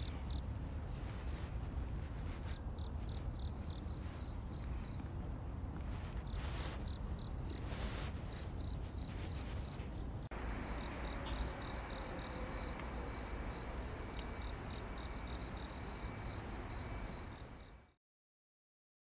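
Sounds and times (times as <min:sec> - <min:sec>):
crickets chirping: 0:00.0 - 0:05.1, 0:05.8 - 0:18.0.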